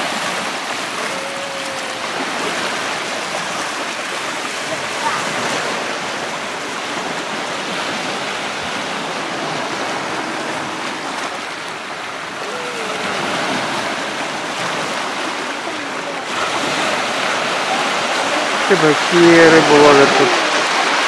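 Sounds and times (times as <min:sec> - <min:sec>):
waves breaking on rocky shore: 0:00.0 - 0:21.0.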